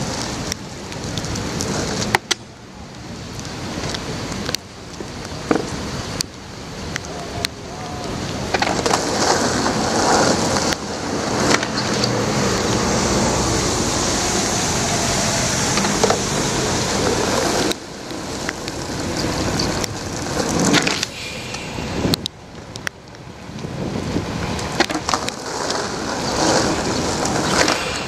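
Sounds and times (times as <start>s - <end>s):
rain hiss: 0.0s - 28.0s
traffic on wet street: 0.0s - 28.0s.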